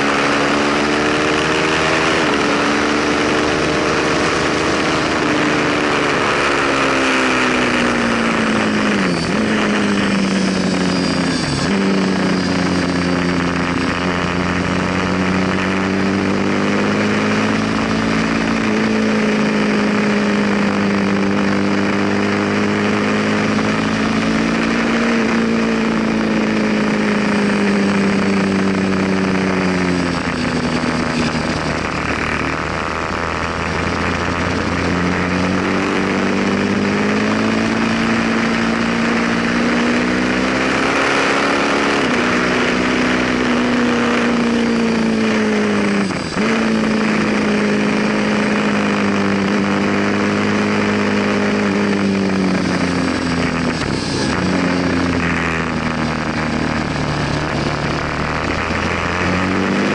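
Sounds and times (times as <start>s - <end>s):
motorcycle engine running hard: 0.0s - 59.9s
rushing wind: 0.0s - 59.9s.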